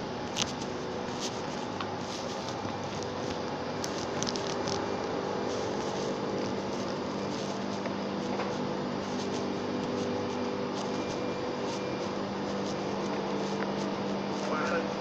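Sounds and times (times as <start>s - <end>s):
industrial machinery drone: 0.0s - 15.0s
steady machine tones: 0.0s - 15.0s.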